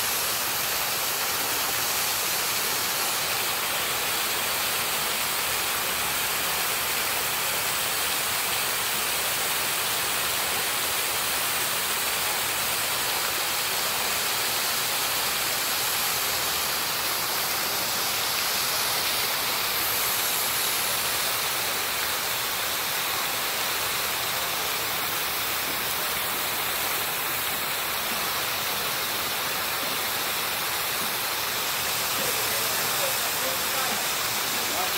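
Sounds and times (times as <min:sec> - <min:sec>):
fountain water splashing into pool: 0:00.0 - 0:34.9.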